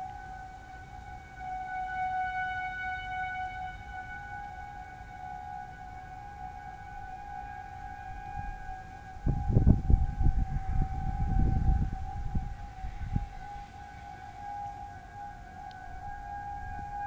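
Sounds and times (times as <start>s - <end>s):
distant warning sirens: 0.0s - 17.0s.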